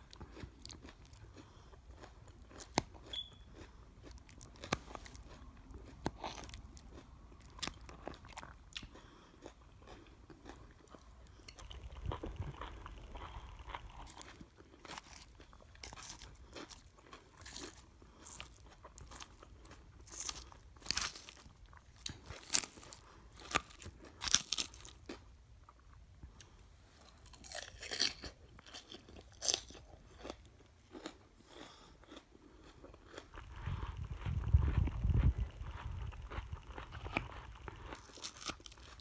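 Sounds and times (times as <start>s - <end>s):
chewing crunchy vegetables: 0.0s - 39.0s.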